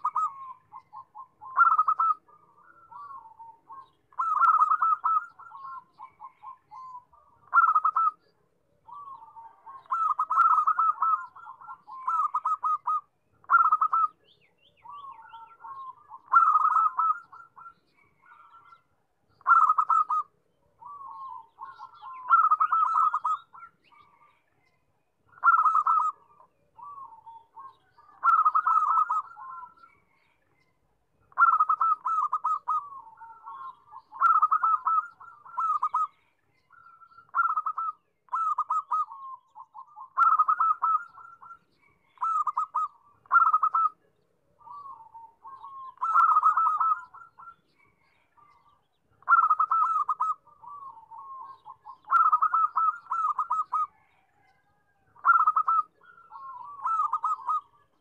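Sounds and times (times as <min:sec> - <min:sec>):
dove cooing: 0:00.0 - 0:24.4, 0:25.3 - 0:30.2, 0:31.3 - 0:58.0.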